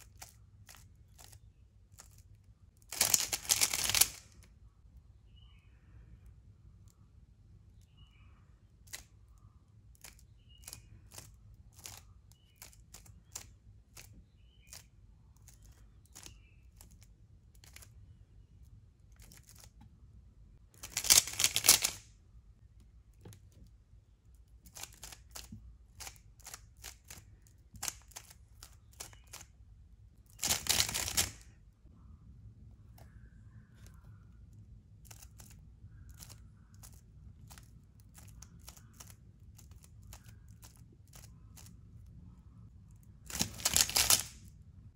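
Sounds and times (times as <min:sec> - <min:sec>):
puzzle cube turning clicks: 0:00.0 - 0:04.5, 0:08.8 - 0:18.1, 0:19.0 - 0:19.8, 0:20.7 - 0:22.1, 0:22.9 - 0:31.5, 0:32.9 - 0:44.5.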